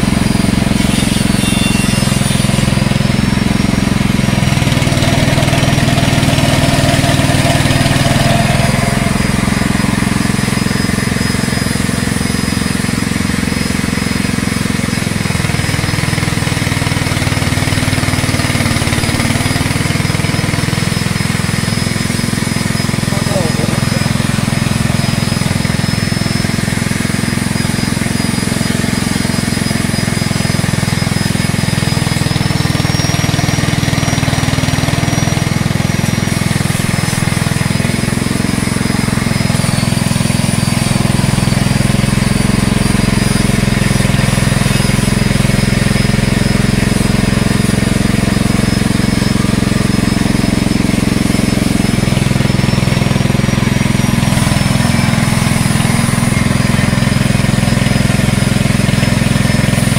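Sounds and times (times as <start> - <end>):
high whine: 0.0 - 59.9
small engine running: 0.0 - 59.9.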